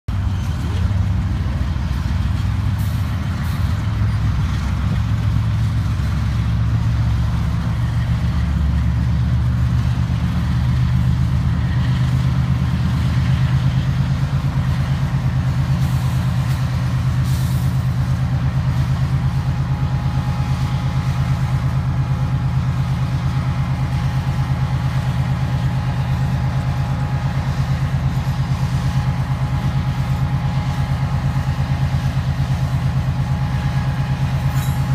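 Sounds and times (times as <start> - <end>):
diesel locomotives droning: 0.1 - 34.9
wheels grinding on rail: 0.1 - 34.9.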